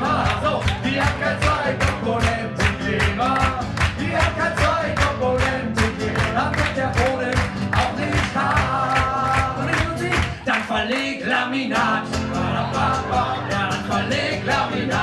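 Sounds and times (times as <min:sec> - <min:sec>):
acoustic guitar strumming: 0:00.0 - 0:10.5, 0:11.8 - 0:15.0
person singing: 0:00.0 - 0:15.0.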